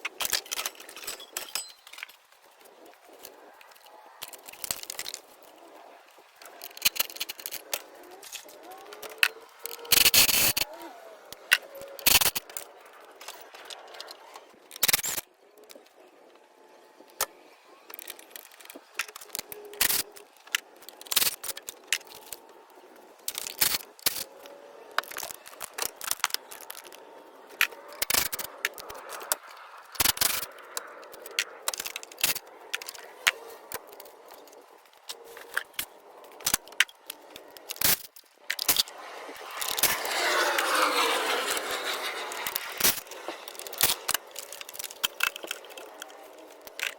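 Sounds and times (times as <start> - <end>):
hand tools clicking and clattering: 0.0 - 15.2, 23.2 - 46.9.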